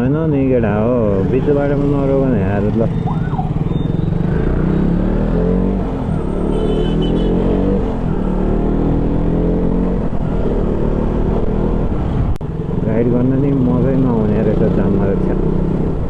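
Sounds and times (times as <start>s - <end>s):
motorcycle engine revving: 1.0s - 16.0s.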